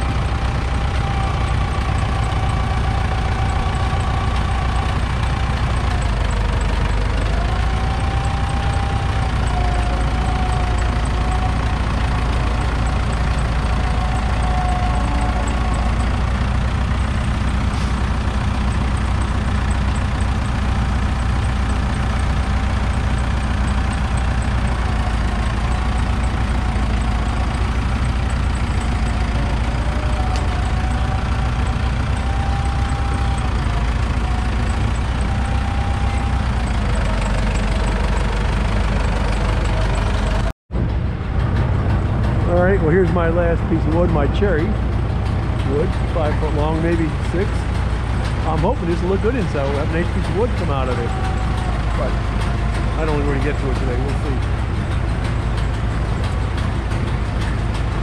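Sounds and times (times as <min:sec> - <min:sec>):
saw whine: 0:00.0 - 0:40.5, 0:45.6 - 0:58.0
sawmill engine drone: 0:00.0 - 0:58.0.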